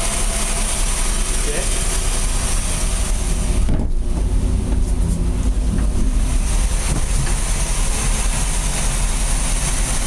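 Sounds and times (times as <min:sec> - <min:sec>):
boat engines idling: 0:00.0 - 0:10.0.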